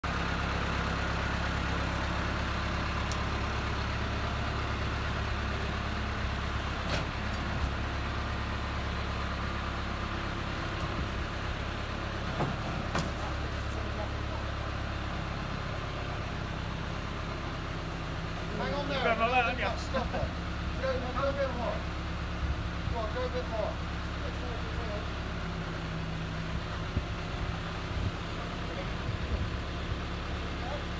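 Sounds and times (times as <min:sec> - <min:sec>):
heavy vehicle engine idling: 0:00.0 - 0:30.9.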